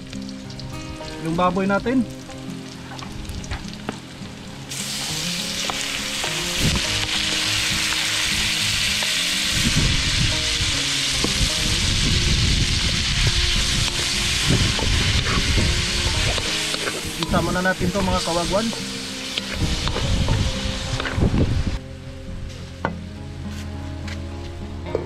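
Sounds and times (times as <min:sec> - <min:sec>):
meat sizzling in a wok: 0:00.0 - 0:21.8.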